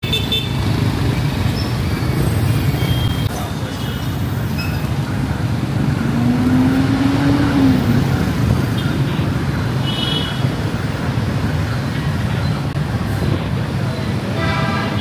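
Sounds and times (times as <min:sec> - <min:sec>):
traffic and motorbike engines: 0:00.0 - 0:15.0.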